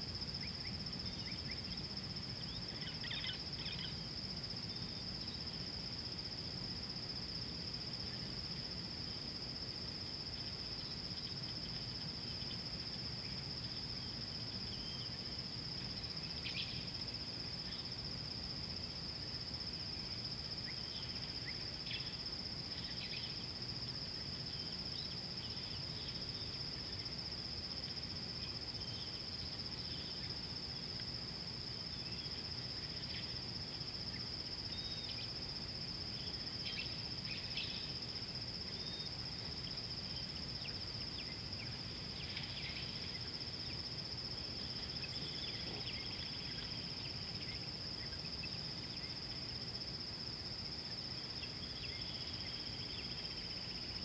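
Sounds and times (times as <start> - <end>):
insect chirps: 0.0 - 54.0
insects trilling: 0.0 - 54.0
low background noise: 0.0 - 54.0.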